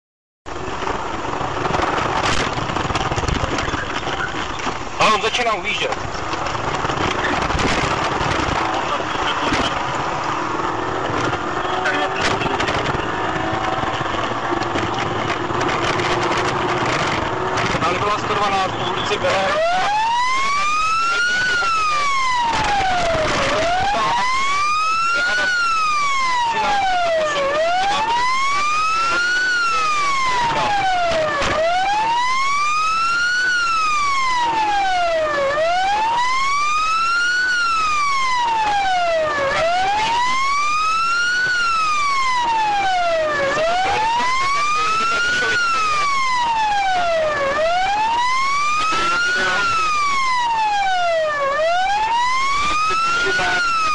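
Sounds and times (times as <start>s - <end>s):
police siren wailing: 0.8s - 53.9s.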